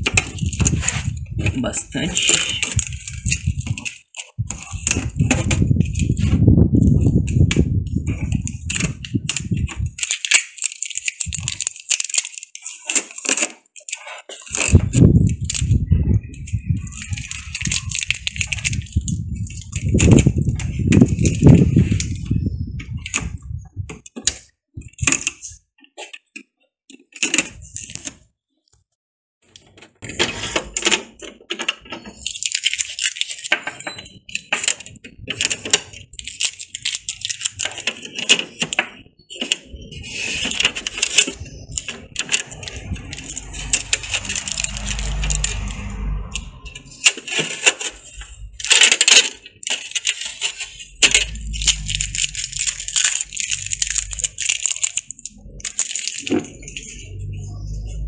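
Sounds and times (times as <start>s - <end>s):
tape peeling off plastic: 0.0s - 1.4s, 2.0s - 23.3s, 32.1s - 58.0s
small plastic clicks: 7.3s - 28.8s, 30.5s - 56.9s.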